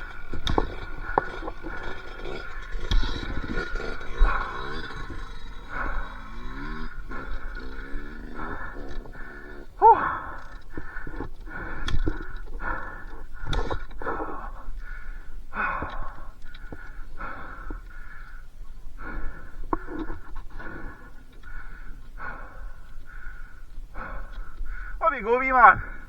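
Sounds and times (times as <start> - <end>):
person breathing hard in helmet: 0.0 - 25.0, 25.8 - 26.0.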